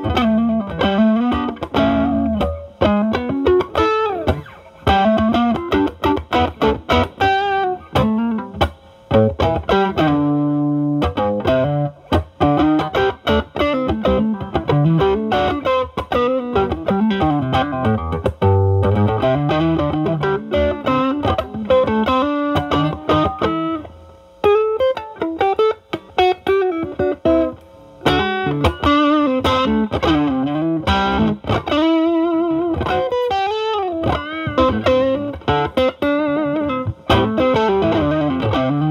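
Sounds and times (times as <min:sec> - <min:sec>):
overdriven electric guitar lead: 0:00.0 - 0:38.9.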